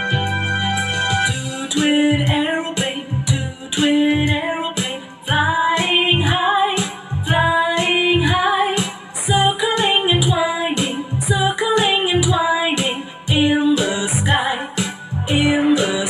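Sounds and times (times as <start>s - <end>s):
backing track with steady beat: 0.0s - 16.0s
woman singing: 1.3s - 16.0s.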